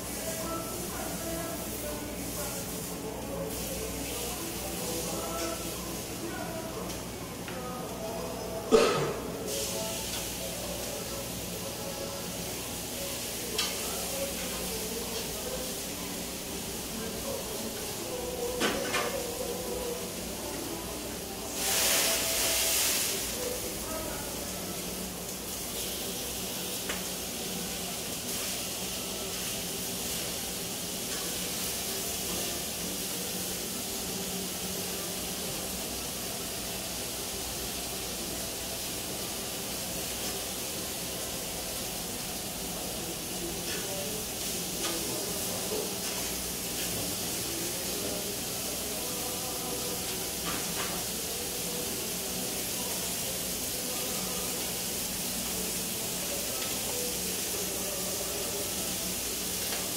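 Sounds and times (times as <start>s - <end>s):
steaks sizzling on hot plates: 0.0s - 7.1s, 7.7s - 59.9s.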